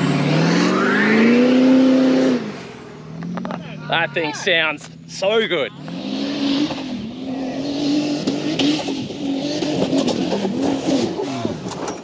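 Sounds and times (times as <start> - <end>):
race vehicle engine running hard: 0.0 - 12.0.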